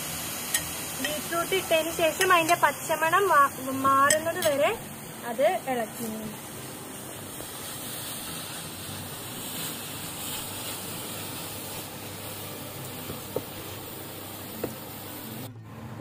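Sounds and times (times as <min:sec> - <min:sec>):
beetroot sizzling in a frying pan: 0:00.0 - 0:15.5.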